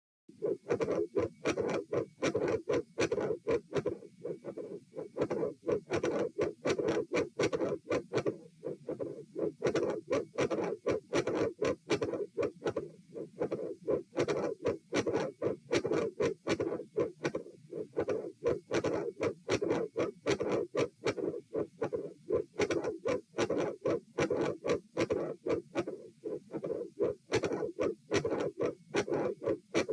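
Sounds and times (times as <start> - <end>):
heart murmur: 0.3 - 29.9
heartbeats: 0.3 - 29.9.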